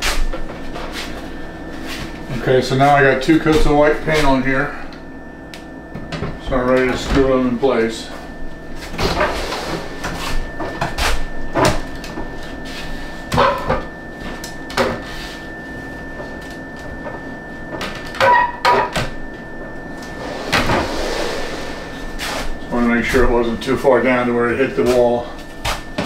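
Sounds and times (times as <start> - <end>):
faint high hum: 0.4 - 14.6, 15.9 - 25.6.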